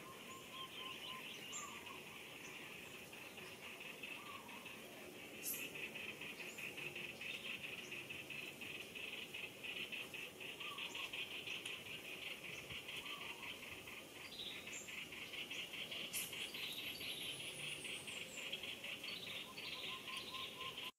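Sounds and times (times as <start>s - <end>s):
bird chirps: 0.0s - 4.8s, 5.4s - 20.9s.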